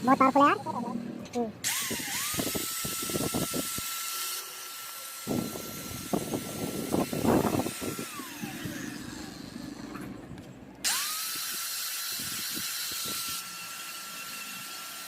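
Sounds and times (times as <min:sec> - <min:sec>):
angle grinder whine: 0:00.0 - 0:15.0.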